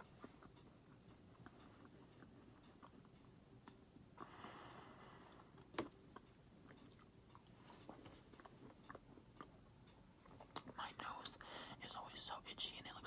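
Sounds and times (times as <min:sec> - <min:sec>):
person chewing cookie: 0:00.0 - 0:11.4.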